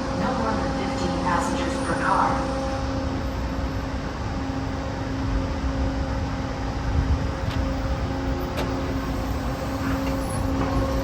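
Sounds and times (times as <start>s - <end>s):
transit system hum and rumble: 0.0s - 11.0s.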